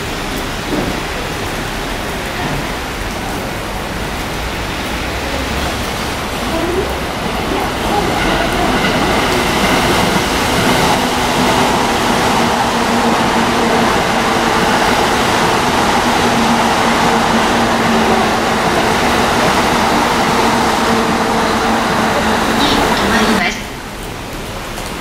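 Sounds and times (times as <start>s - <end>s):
electric train rumbling past: 0.0s - 24.7s
train hum: 0.0s - 25.0s.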